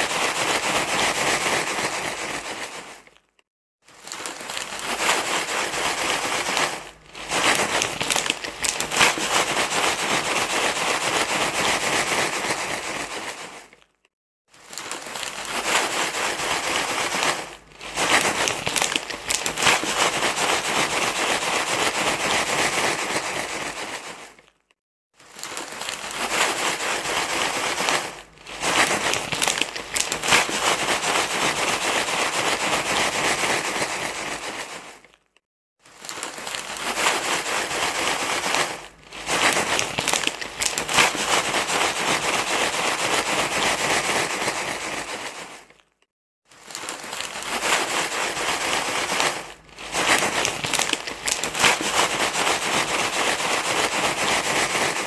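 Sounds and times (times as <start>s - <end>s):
crinkling rustle: 0.2s - 55.0s.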